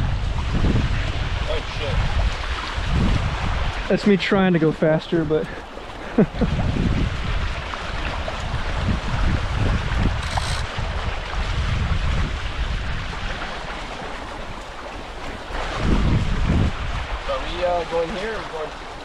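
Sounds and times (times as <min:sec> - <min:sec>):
water rushing past hulls: 0:00.0 - 0:19.0
wind buffeting microphone: 0:00.0 - 0:19.0.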